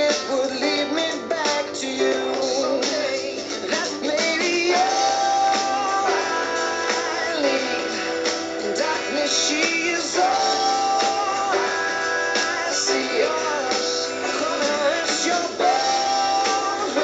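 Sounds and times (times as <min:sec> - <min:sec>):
guitar: 0:00.0 - 0:17.0.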